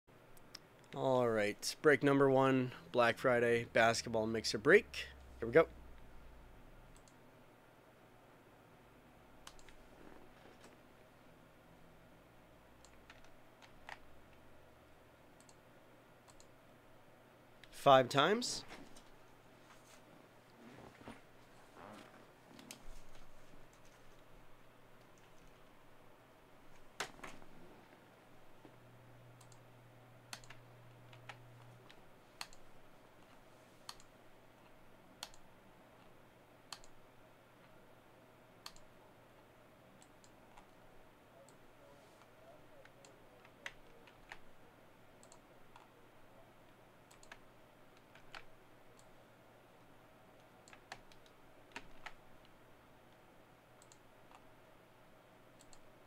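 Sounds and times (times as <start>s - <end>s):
low steady hum: 0.1s - 56.0s.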